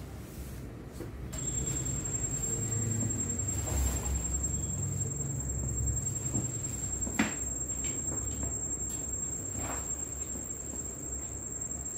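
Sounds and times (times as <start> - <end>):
steady low hum: 0.0 - 11.9
constant high whine: 1.3 - 11.9.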